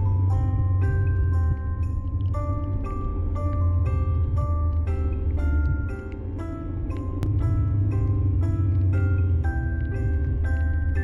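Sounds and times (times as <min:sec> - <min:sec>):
light pitched notes: 0:00.0 - 0:11.0
low rumble: 0:00.0 - 0:11.0.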